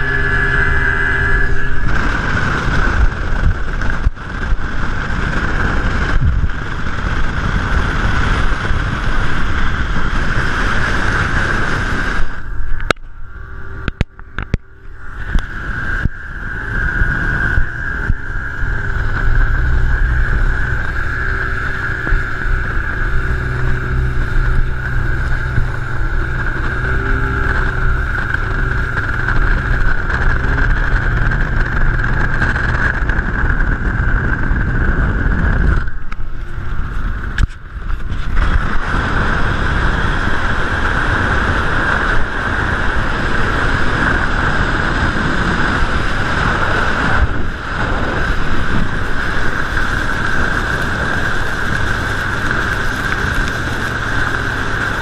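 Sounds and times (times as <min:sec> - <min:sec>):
outboard motor drone: 0:00.0 - 0:55.0
wind and water rushing: 0:00.0 - 0:55.0.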